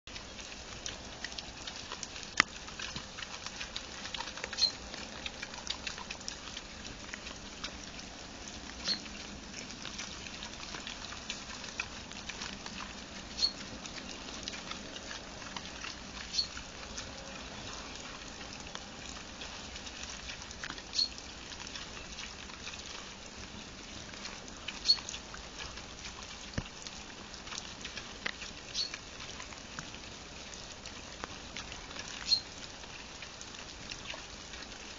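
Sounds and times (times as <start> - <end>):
boar crunching and rooting: 0.1 - 34.9.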